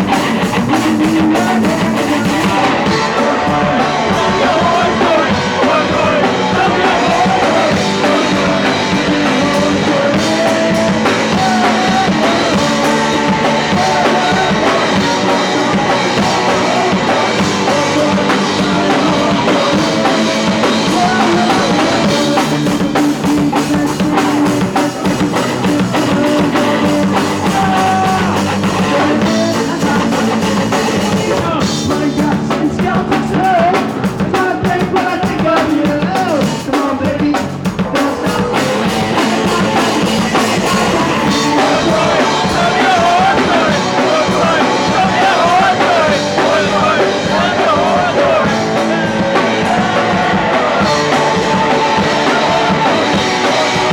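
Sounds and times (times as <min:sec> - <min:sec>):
drum kit pounding: 0:00.0 - 0:53.9
person singing: 0:00.0 - 0:53.9
punk rock band playing: 0:00.0 - 0:53.9.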